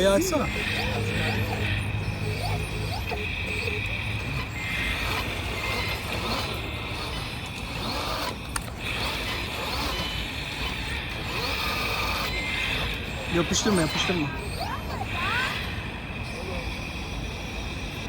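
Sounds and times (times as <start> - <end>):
hydraulic pump whining: 0.0 - 18.0.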